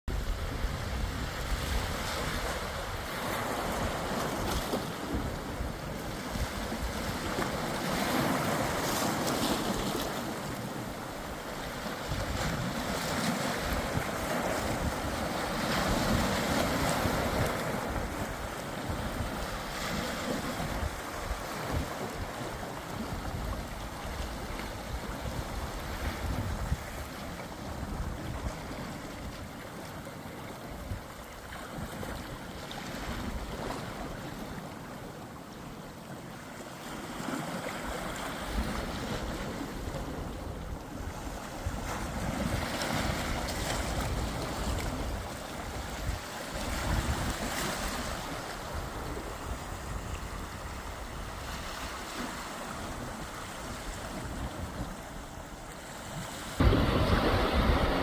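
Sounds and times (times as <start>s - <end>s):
wind buffeting microphone: 0.1s - 30.0s, 38.0s - 58.0s
sea waves washing in: 0.1s - 58.0s.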